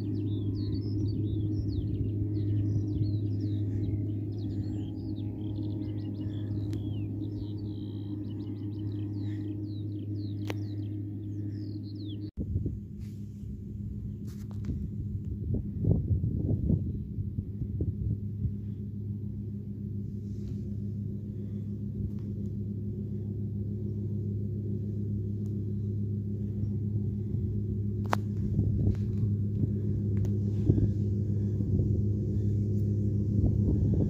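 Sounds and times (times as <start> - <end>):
tractor engine drone: 0.0 - 34.0.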